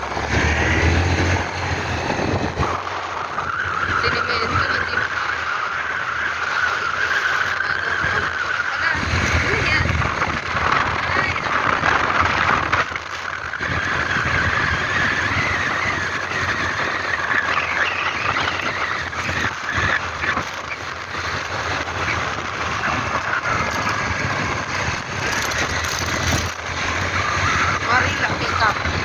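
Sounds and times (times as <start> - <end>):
road noise: 0.0 - 29.0
vehicle engine: 0.0 - 29.0.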